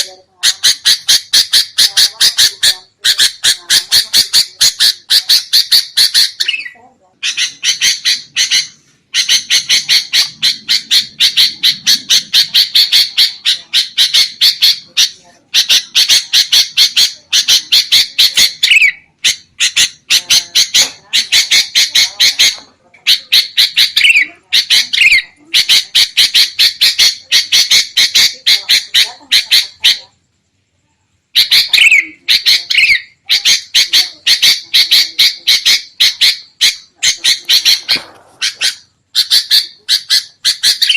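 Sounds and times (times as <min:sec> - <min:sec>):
bulbuls chattering: 0:00.0 - 0:30.6, 0:31.3 - 0:40.9.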